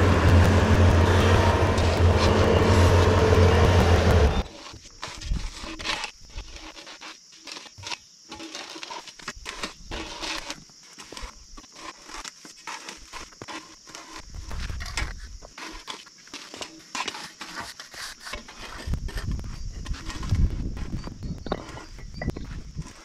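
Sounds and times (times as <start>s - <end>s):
light scrapes and clicks: 1.7s - 23.0s.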